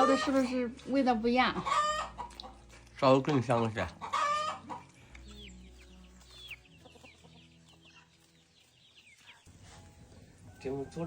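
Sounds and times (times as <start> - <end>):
chickens chirping faintly: 0.0 - 11.0.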